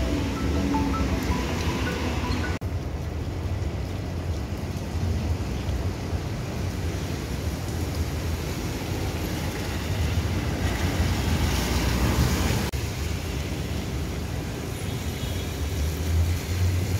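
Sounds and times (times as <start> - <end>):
tyres hissing on wet road: 0.0 - 16.9.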